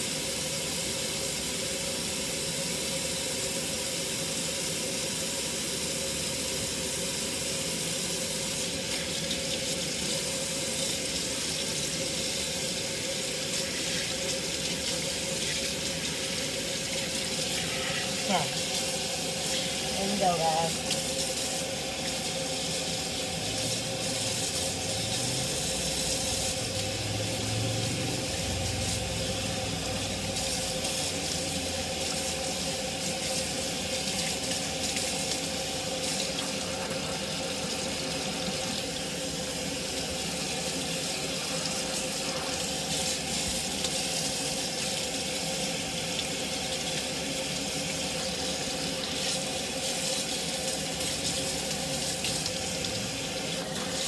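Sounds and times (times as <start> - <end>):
faucet running into metal sink: 0.0 - 54.0.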